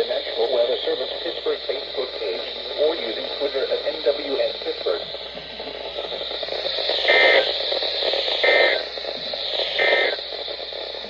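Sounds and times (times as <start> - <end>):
high-pitched digital data bursts: 0.0 - 11.0
radio static: 0.0 - 11.0.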